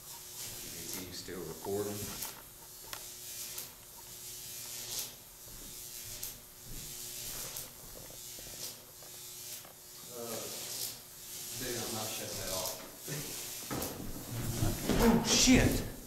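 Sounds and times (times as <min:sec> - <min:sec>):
electrical buzz and hum: 0:00.0 - 0:16.0.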